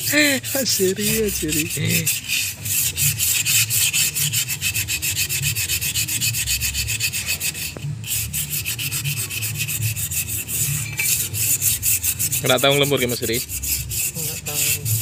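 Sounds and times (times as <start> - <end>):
sandpaper rubbing metal drum: 0.0 - 15.0.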